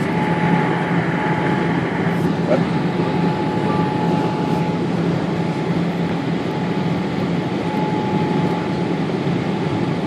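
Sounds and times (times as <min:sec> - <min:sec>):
constant low hum: 0:00.0 - 0:10.0
jet engines rumbling in cabin: 0:00.0 - 0:10.0.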